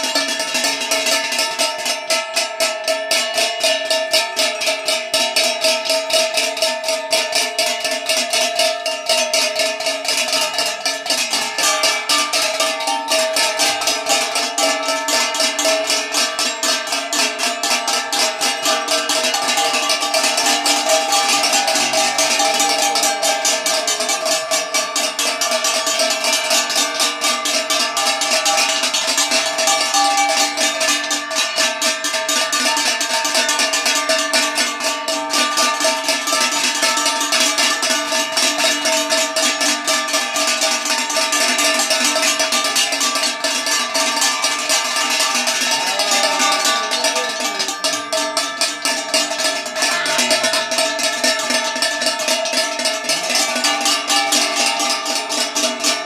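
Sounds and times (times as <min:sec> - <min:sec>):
metal plates beaten with sticks: 0:00.0 - 0:56.0.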